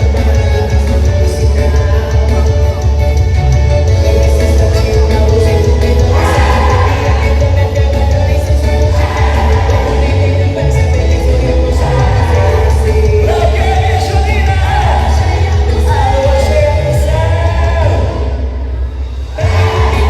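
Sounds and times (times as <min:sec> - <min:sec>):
loud music with singing: 0:00.0 - 0:20.0.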